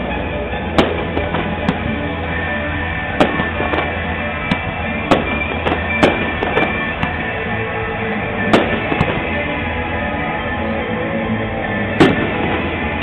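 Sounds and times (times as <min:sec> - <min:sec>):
fireworks bangs: 0:00.0 - 0:10.7, 0:11.6 - 0:13.0
music: 0:00.0 - 0:13.0.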